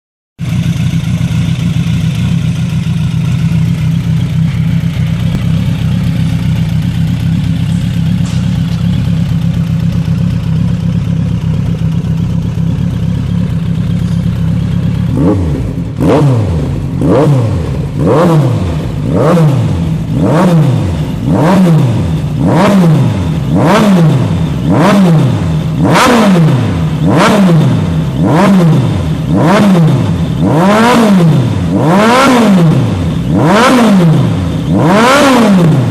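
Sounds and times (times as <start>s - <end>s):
motorcycle engine idling and revving: 0.4s - 35.9s.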